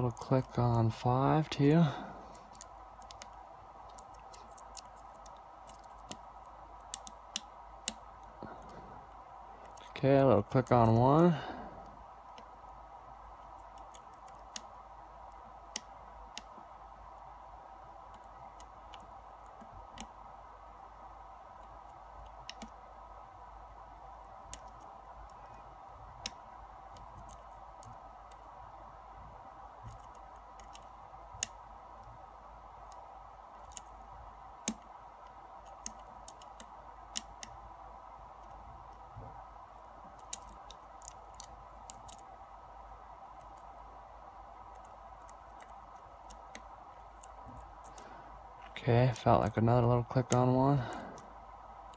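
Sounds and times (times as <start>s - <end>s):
faint hum: 0.0s - 51.9s.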